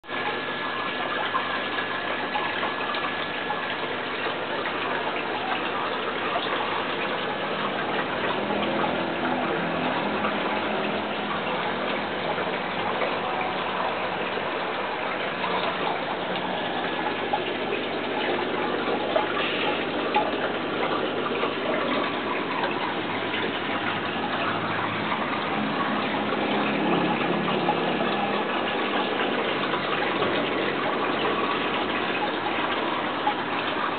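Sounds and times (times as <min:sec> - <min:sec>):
water circulating in fish tank: 0:00.0 - 0:33.9.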